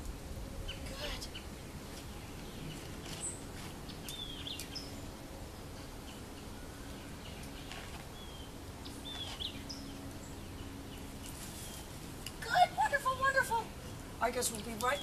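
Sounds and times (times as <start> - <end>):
birds chirping: 0.5 - 15.0.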